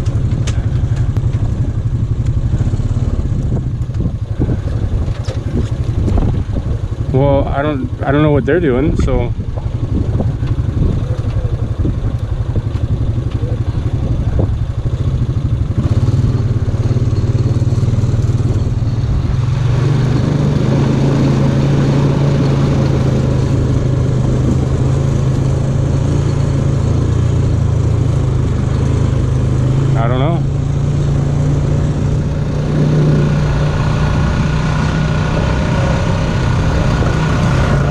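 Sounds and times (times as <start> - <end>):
engine drone with fast pulsing: 0.0 - 37.9.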